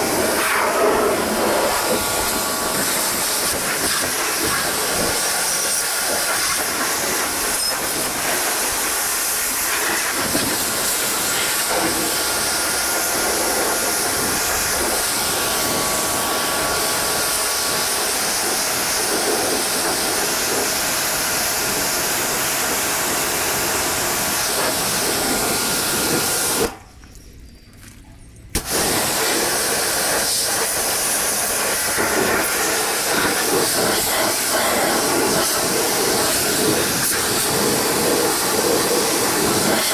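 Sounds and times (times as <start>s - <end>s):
pressure washer spraying water: 0.0s - 26.8s, 28.6s - 39.9s.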